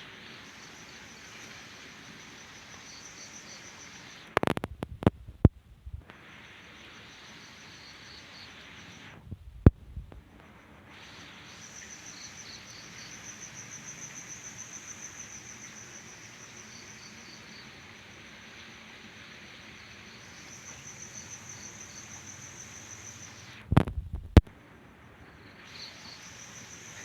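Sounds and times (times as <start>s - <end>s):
crickets chirping: 0.0s - 5.1s, 6.1s - 9.2s, 10.2s - 23.6s, 24.6s - 27.0s.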